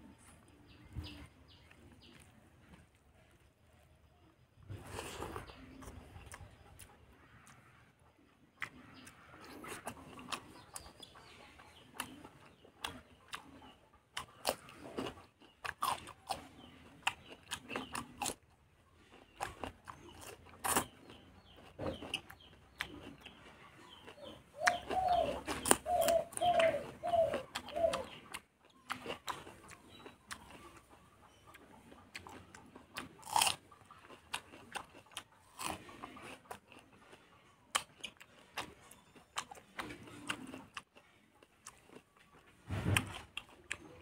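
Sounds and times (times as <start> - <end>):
wet chewing and mouth clicks: 4.8 - 44.0.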